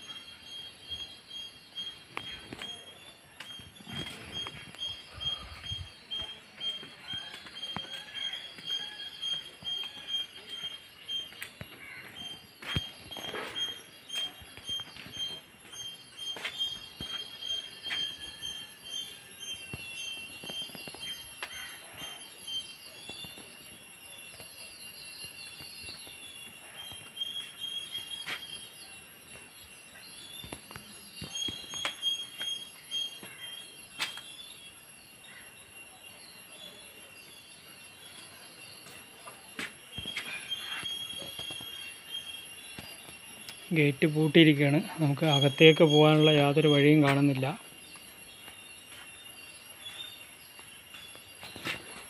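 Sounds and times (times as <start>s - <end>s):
high-pitched insect drone: 0.0s - 52.0s.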